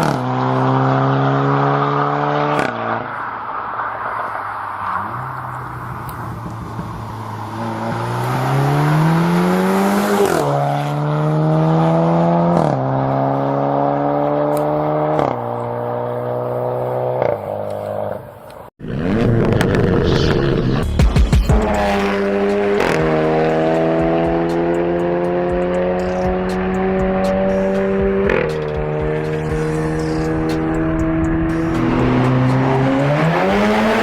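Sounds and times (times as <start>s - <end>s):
car exhaust accelerating hard: 4.7s - 17.6s, 18.8s - 34.0s.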